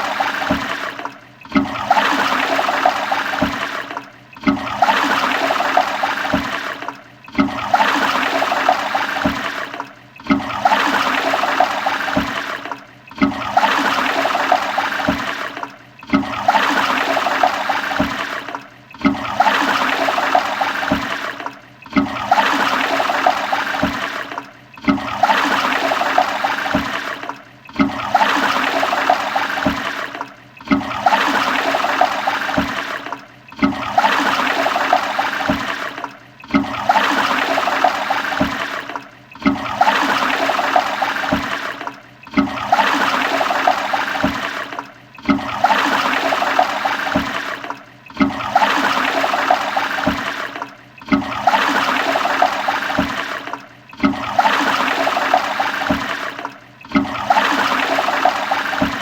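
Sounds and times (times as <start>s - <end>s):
toilet flushing water: 0.0s - 59.0s.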